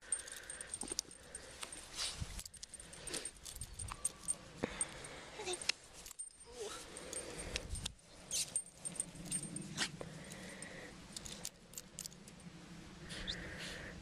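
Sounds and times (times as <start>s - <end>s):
harness fittings jingling: 0.0s - 12.5s.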